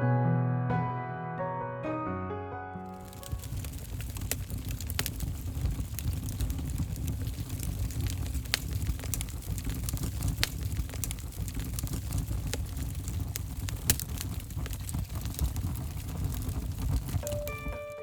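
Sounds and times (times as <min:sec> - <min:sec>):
fire low rumble: 0:02.8 - 0:17.9
fire popping: 0:02.8 - 0:18.0
wood fire crackling: 0:02.8 - 0:18.0.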